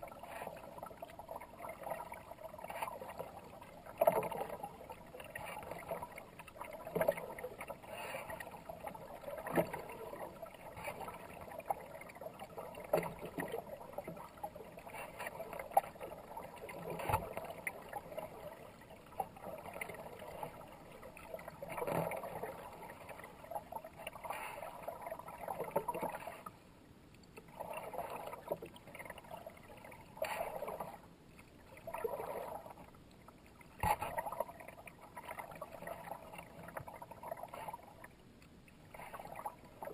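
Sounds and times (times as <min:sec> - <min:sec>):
steady wash of water: 0:00.0 - 0:26.7, 0:27.4 - 0:39.9.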